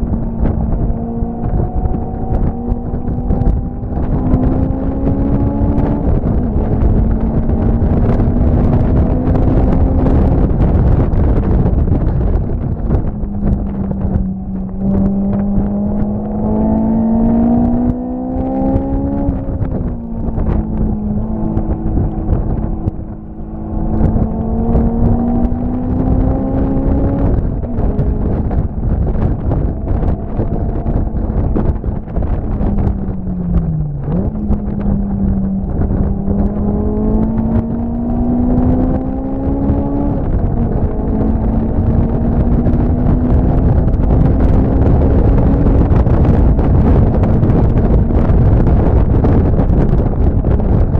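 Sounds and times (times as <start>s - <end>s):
rumbling wind rush: 0.0s - 50.9s
vehicle engine running hard: 0.0s - 50.9s.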